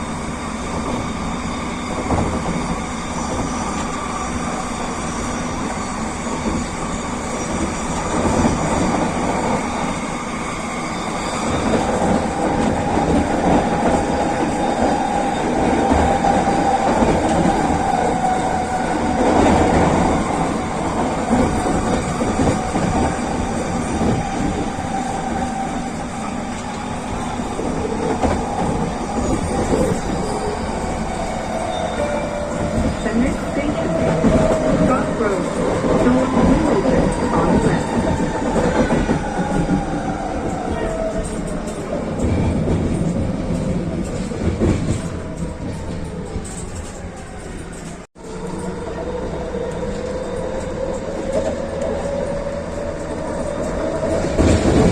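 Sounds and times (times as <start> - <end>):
train wheels rumbling on rail: 0.0 - 54.9
train whine: 0.0 - 54.9.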